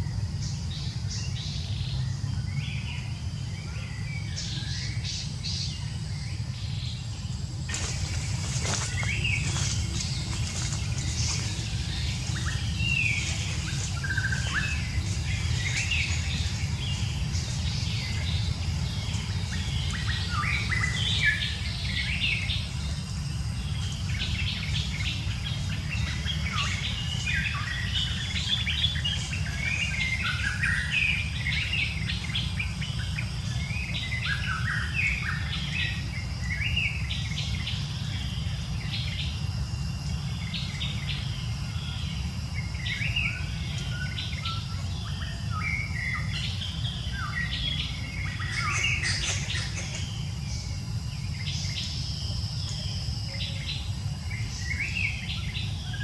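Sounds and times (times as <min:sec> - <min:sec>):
many birds chirping: 0:00.0 - 0:56.0
steady low rumble: 0:00.0 - 0:56.0.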